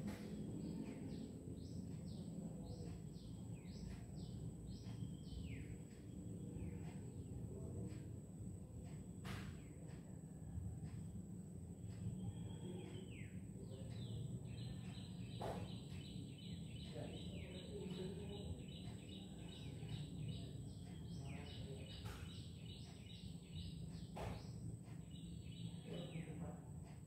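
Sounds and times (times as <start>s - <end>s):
bird chirping: 0.0s - 8.0s, 11.8s - 26.8s
steady low hum: 0.0s - 27.0s.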